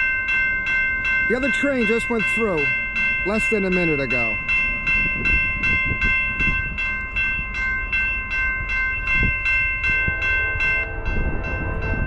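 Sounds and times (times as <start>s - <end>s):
railroad crossing bell ringing: 0.0s - 12.0s.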